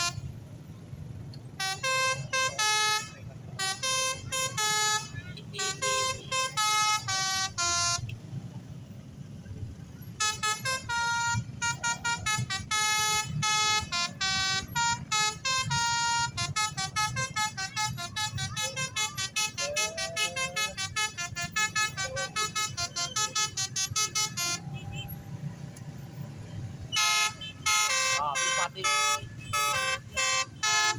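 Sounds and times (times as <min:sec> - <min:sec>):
multi-tone bus horn tune: 0:00.0 - 0:00.4, 0:01.4 - 0:08.2, 0:09.6 - 0:25.3, 0:26.8 - 0:30.9.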